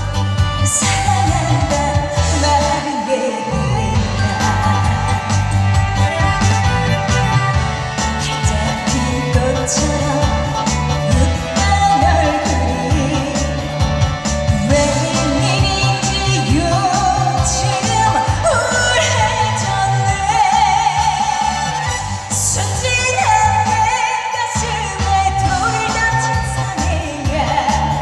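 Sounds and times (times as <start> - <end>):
backing music with drum beat: 0.0 - 2.9, 3.8 - 28.0
woman singing with vibrato: 0.0 - 28.0.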